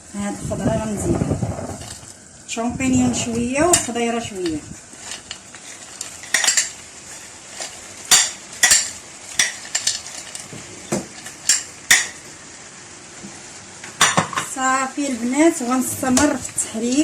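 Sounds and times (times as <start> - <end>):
faint sizzle: 0.0 - 17.0.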